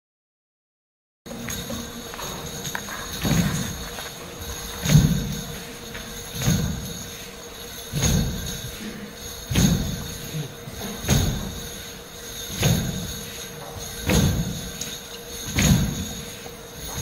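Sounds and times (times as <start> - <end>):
steady ringing tone: 1.3 - 17.0.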